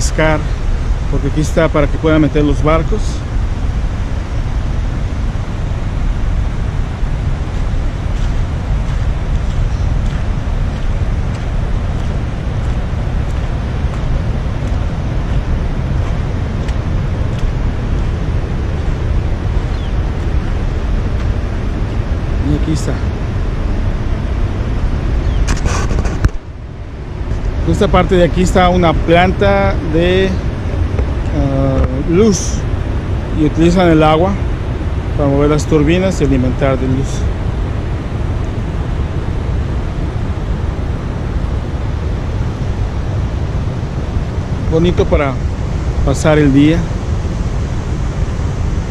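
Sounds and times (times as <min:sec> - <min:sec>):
heavy low rumble: 0:00.0 - 0:48.9
river water rushing: 0:00.0 - 0:48.9.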